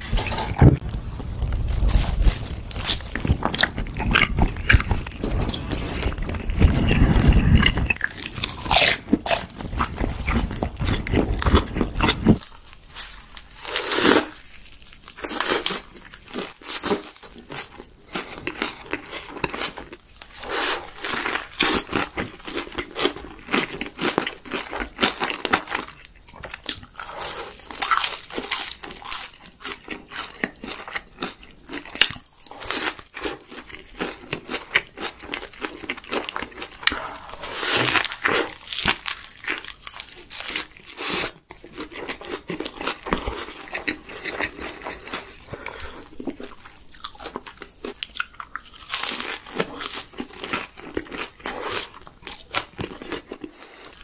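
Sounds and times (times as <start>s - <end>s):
chewing chicken nuggets: 1.3s - 54.0s.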